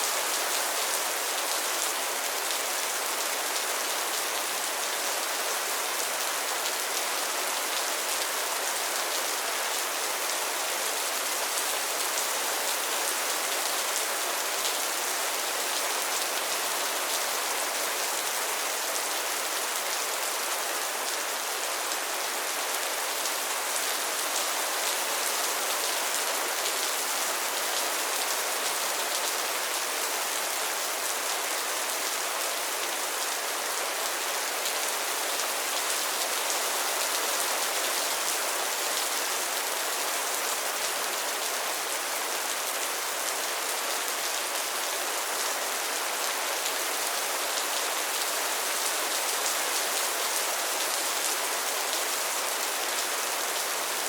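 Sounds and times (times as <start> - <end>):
rain falling on a pond: 0.0 - 54.0.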